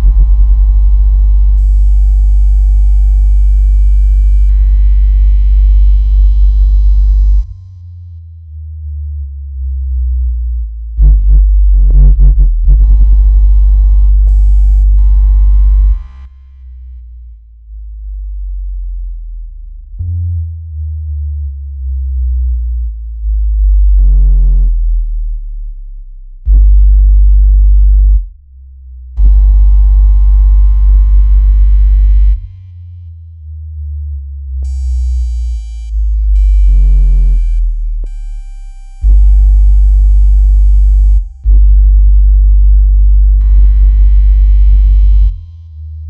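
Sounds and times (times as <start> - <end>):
buzzing bass with overtones: 0.0 - 46.0
deep bass tones: 0.0 - 46.0.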